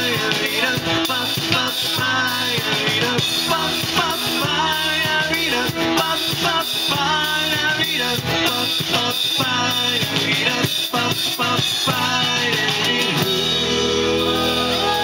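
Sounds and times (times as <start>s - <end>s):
pop-rock band playing: 0.0s - 15.0s.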